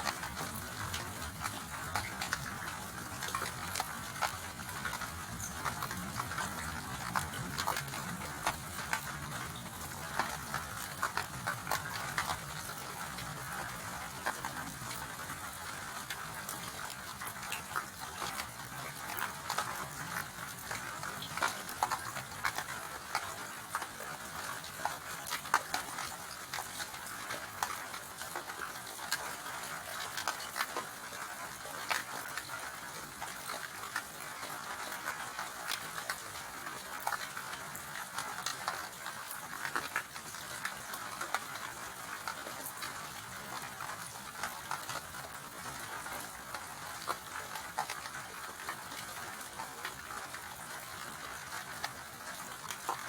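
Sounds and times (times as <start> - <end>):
raindrops ticking: 0.0 - 53.0
steady rain hiss: 0.0 - 53.0.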